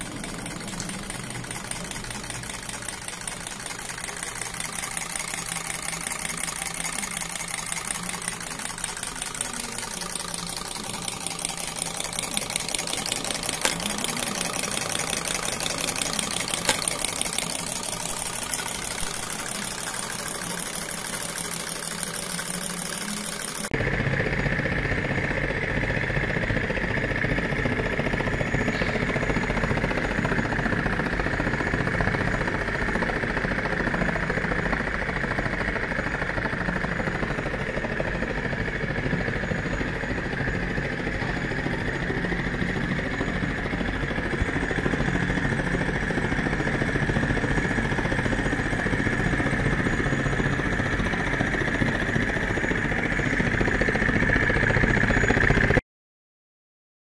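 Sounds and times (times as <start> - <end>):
small engine running: 0.0 - 55.8.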